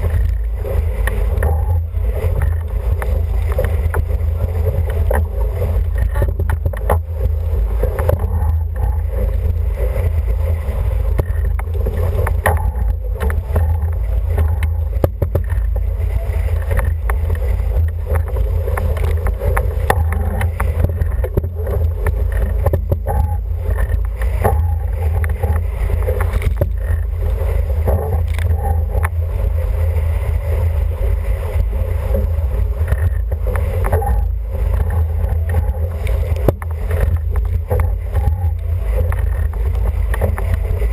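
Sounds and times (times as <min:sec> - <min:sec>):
water rushing along hull: 0:00.0 - 0:40.9
wind rumbling on microphone: 0:00.0 - 0:40.9.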